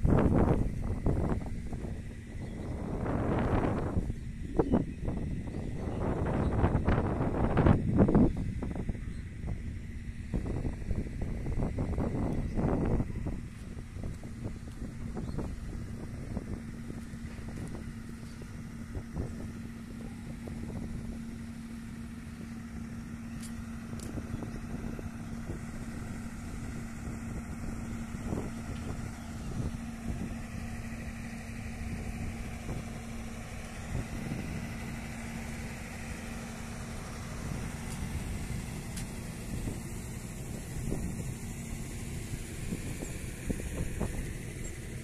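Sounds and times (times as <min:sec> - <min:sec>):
machinery humming: 0:00.0 - 0:45.0
wind rumbling on microphone: 0:00.0 - 0:45.0.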